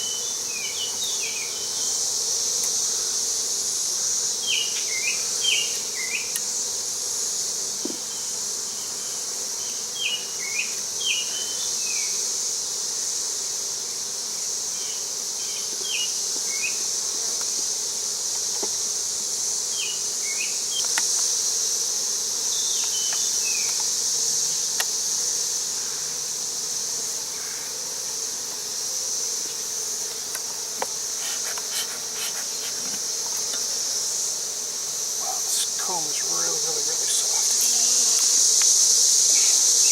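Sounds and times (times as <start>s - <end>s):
high-pitched insect drone: 0.0s - 39.9s
honey bee colony humming: 0.0s - 39.9s.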